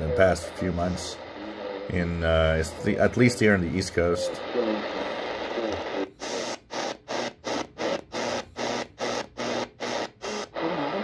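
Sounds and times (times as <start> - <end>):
radio static bursts: 0.0 - 11.0.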